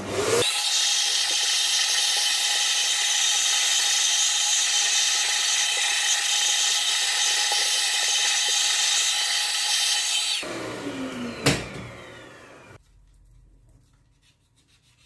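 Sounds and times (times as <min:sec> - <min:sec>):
vacuum cleaner whining: 0:00.0 - 0:12.8.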